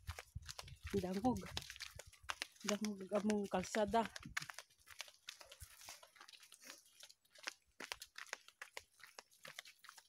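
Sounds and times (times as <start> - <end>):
footsteps crunching on dry leaves: 0.0 - 10.0.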